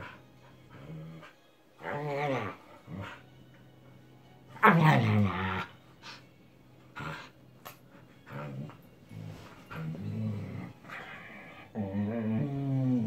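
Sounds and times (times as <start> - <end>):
dogs growling: 0.0 - 3.3, 4.6 - 6.2, 6.9 - 7.4, 8.0 - 13.0.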